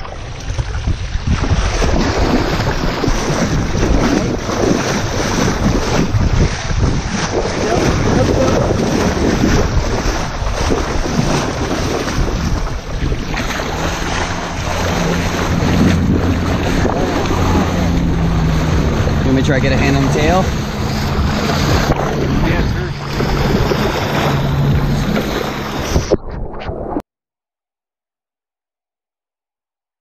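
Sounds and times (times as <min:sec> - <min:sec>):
water splashing against hull: 0:00.0 - 0:27.0
wind buffeting microphone: 0:00.0 - 0:27.0.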